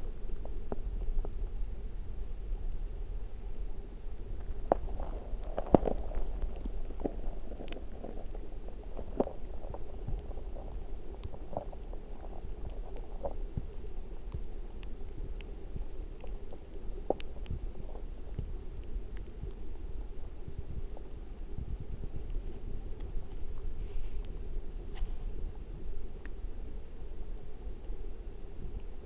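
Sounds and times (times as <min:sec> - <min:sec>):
small underwater clicks and knocks: 0:00.0 - 0:02.3, 0:04.1 - 0:29.0
underwater flowing water rumble: 0:00.0 - 0:29.0.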